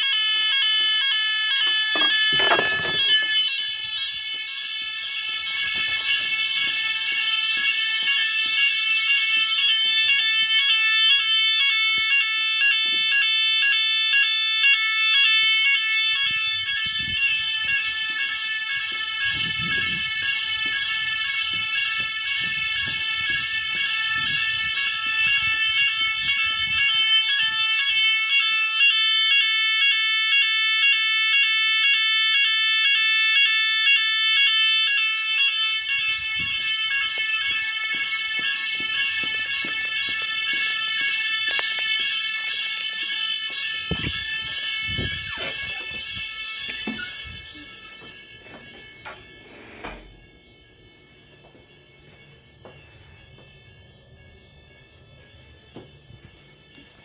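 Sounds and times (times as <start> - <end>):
pulsing fire alarm: 0.0 - 57.0.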